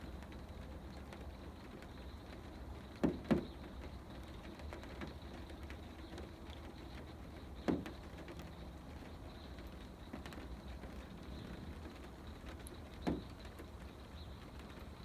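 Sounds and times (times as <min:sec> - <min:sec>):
rain pattering on camper roof: 0:00.0 - 0:15.0.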